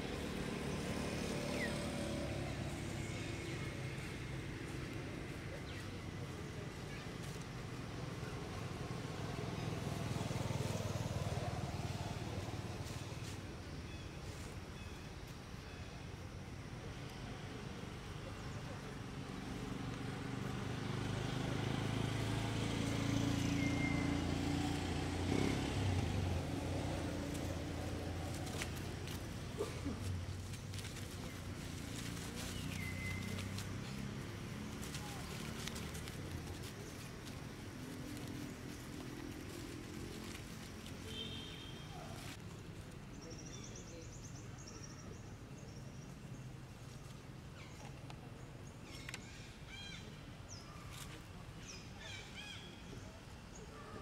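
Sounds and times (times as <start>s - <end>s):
vehicle engine humming: 0.0s - 15.0s, 15.6s - 44.2s.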